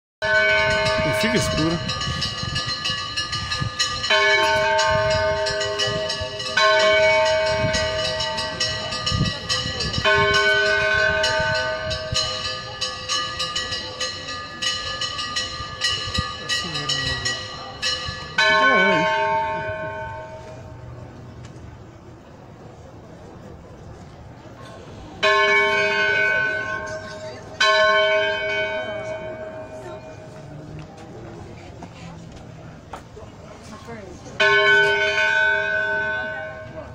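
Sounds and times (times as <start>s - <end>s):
church bell tolling: 0.2s - 21.2s, 24.8s - 30.9s, 34.4s - 36.9s.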